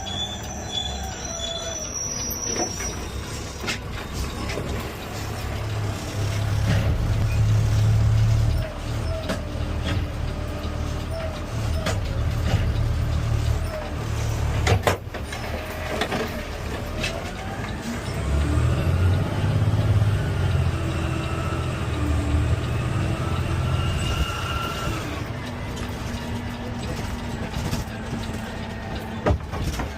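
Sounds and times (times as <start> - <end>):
garbage truck engine rumble: 0.0 - 29.9.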